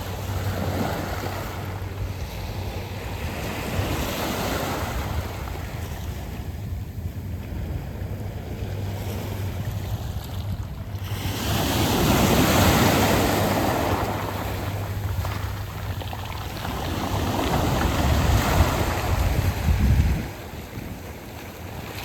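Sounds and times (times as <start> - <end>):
waves washing over pebbles: 0.0 - 22.0
wind rumble on microphone: 0.0 - 22.0.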